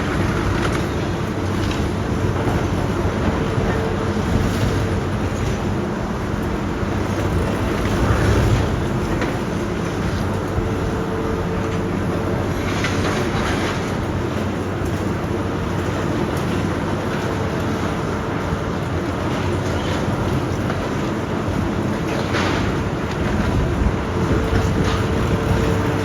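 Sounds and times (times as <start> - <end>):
demolition machinery engine drone: 0.0 - 26.0.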